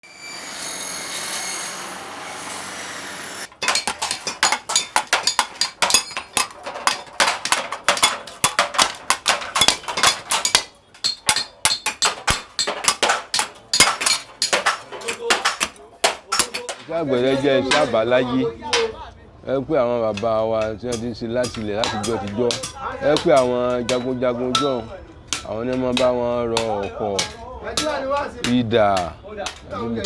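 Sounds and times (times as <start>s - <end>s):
hammers striking metal: 3.4s - 19.0s, 20.1s - 30.0s.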